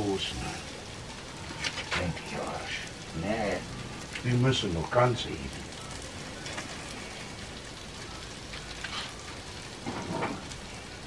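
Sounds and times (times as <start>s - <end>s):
food sizzling on a grill: 0.0s - 11.0s.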